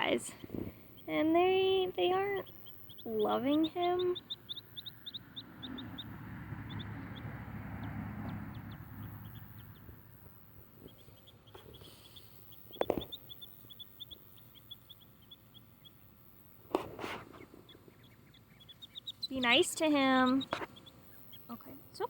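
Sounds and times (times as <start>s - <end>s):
duckling peeping: 0.0s - 22.0s.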